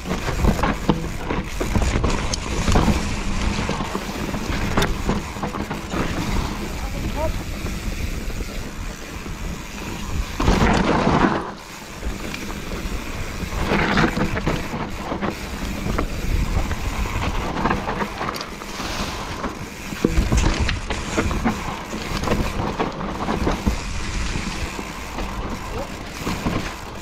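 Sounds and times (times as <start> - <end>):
mountain bike rumble and clatter: 0.0 - 27.0
wind buffeting microphone: 0.0 - 27.0.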